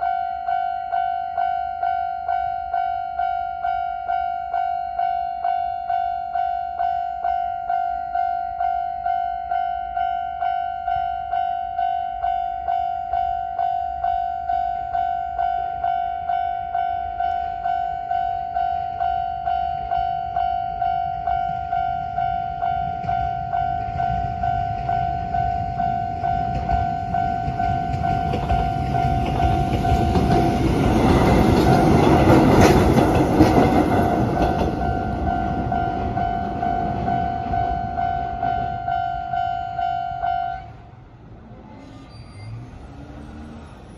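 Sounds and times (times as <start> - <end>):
level crossing alarm ringing: 0.0 - 40.7
train passing: 0.0 - 43.9.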